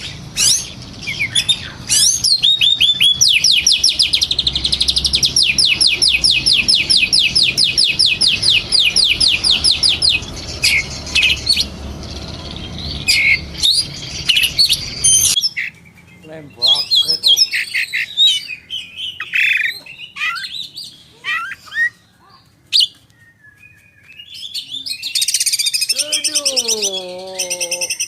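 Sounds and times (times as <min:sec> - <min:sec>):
magpie-robin singing: 0:00.0 - 0:28.0.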